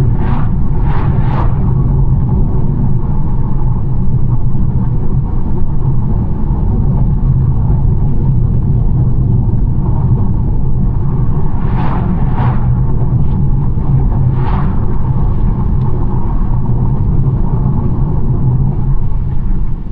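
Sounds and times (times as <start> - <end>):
car engine and tyres rumbling: 0.0 - 19.9.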